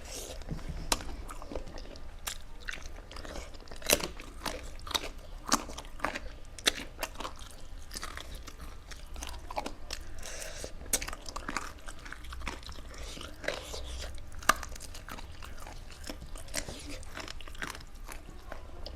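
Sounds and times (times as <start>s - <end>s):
chewing and crunching food: 0.0s - 18.9s.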